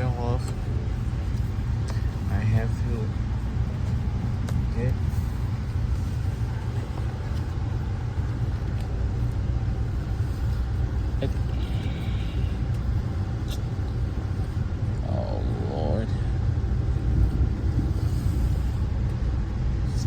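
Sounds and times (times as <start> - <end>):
train rumbling from inside: 0.0 - 20.0.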